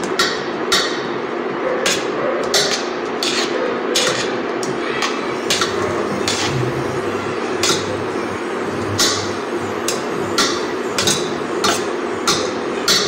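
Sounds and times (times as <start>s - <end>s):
cooktop hum: 0.0s - 13.0s.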